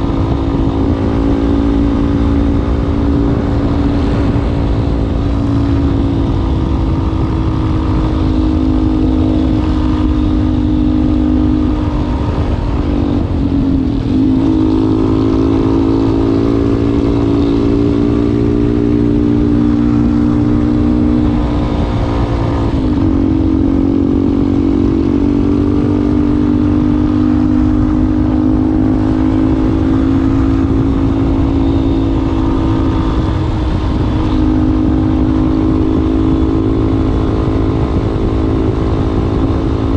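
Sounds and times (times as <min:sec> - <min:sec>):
motorcycle engine at steady revs: 0:00.0 - 0:39.9.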